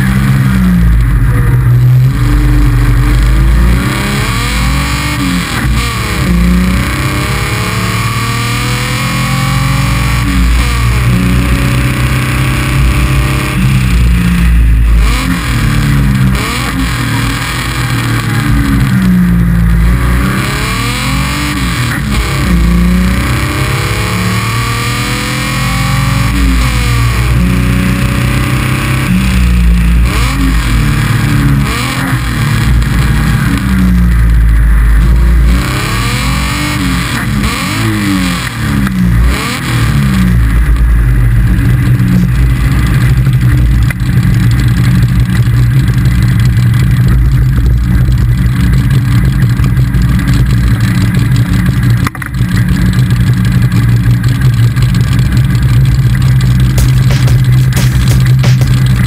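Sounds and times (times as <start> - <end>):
car engine revving: 0.0 - 59.0
wind and road noise: 0.0 - 59.0.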